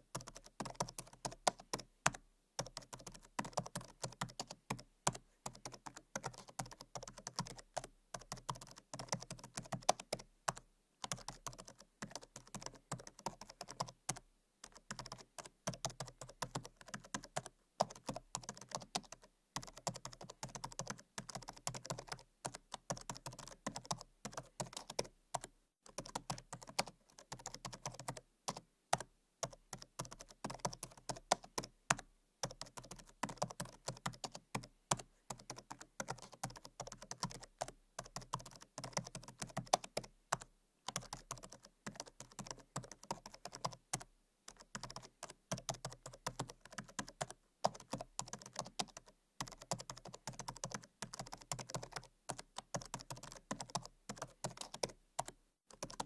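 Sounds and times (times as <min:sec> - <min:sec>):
fast typing on laptop keyboard: 0:00.0 - 0:56.0.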